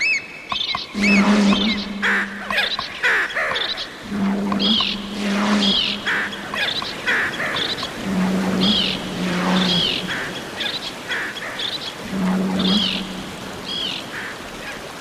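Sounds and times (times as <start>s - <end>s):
low underwater hum: 0.8s - 14.6s.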